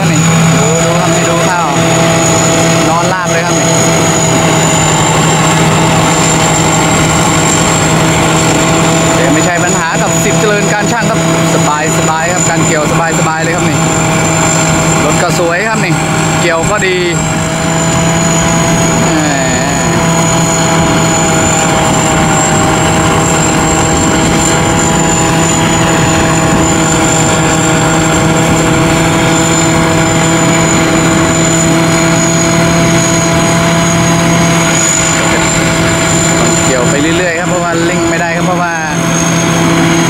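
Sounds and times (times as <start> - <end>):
combine harvester drone: 0.0 - 40.0
thin high whine: 0.0 - 40.0.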